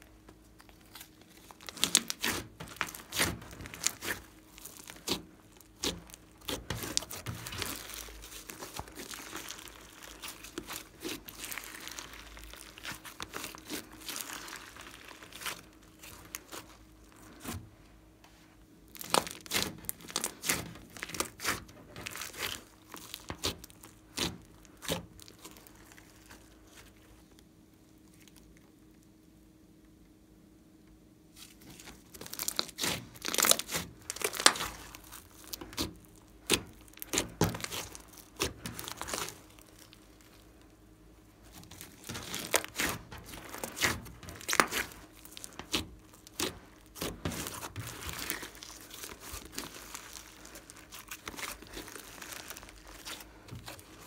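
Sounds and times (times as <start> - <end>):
sticky crackles and clicks: 0.0 - 17.7, 18.9 - 29.1, 31.4 - 54.0
slime squished by hand: 0.0 - 17.8, 18.8 - 28.8, 31.3 - 54.0.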